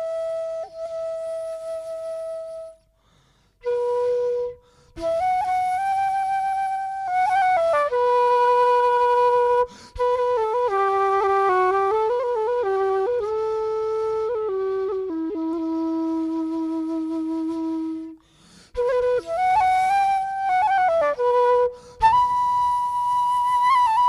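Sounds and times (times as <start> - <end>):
slow flute-like melody: 0.0 - 24.0.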